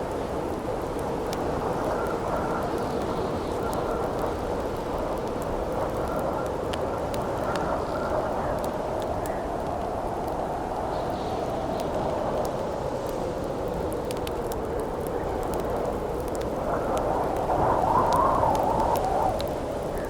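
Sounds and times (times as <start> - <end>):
campfire crackling: 0.0 - 20.0
howling wind: 0.0 - 20.0.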